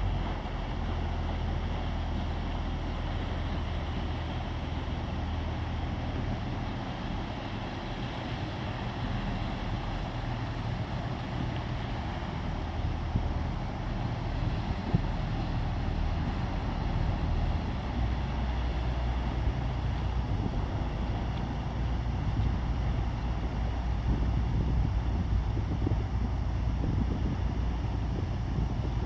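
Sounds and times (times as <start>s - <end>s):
boat engine droning: 0.0s - 29.0s
steady rushing noise: 1.1s - 29.0s.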